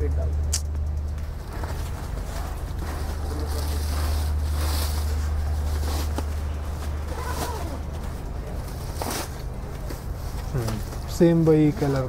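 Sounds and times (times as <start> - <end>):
plastic wrap crinkling: 1.5 - 12.0.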